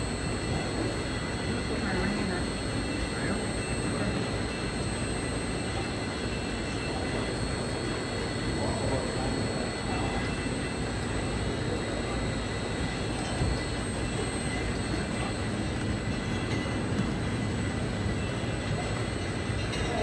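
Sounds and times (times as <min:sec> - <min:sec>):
faint high-pitched whines: 0:00.0 - 0:20.0
machinery hum and rumble: 0:00.0 - 0:20.0.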